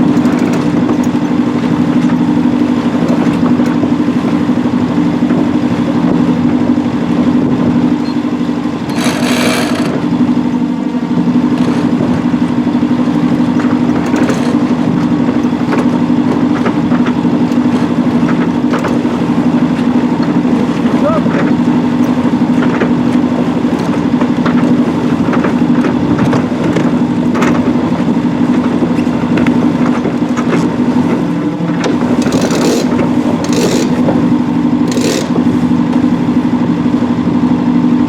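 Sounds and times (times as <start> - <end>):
boat engine running steadily: 0.0 - 38.0.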